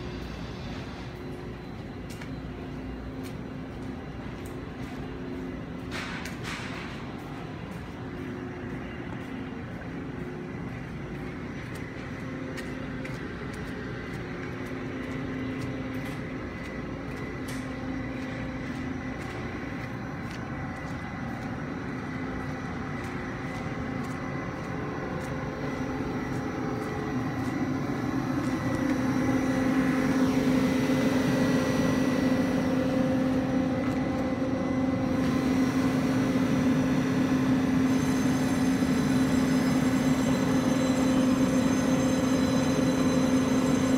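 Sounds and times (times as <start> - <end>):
electric locomotive humming: 0.0 - 43.9.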